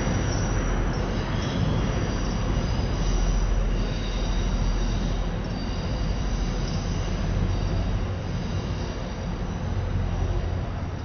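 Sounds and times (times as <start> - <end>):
faint wheel squeal: 0.0 - 10.4
train rumbling: 0.0 - 11.0.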